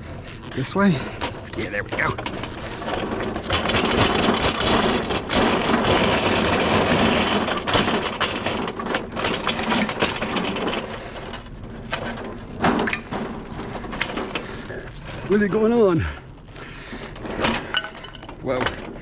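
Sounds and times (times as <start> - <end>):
metal appliance scraping and rattling: 0.0 - 19.0.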